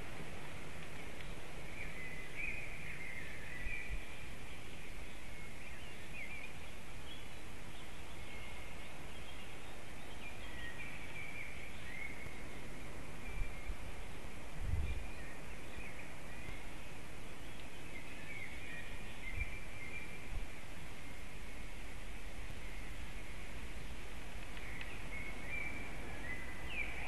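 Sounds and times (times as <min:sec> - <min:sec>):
background hiss: 0:00.0 - 0:27.0
songbirds singing: 0:00.0 - 0:27.0.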